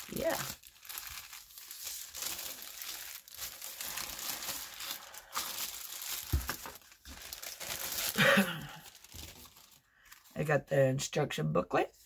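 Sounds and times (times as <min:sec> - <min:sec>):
plastic wrap crinkling: 0:00.0 - 0:10.5.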